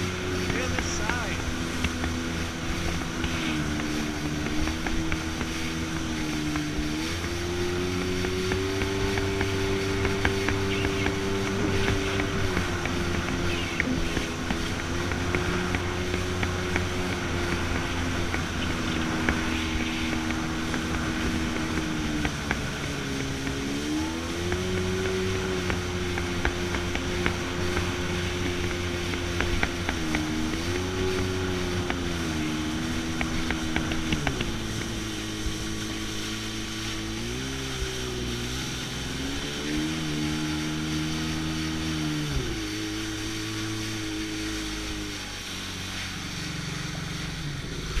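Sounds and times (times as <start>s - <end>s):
jet ski engine running: 0.0s - 48.0s.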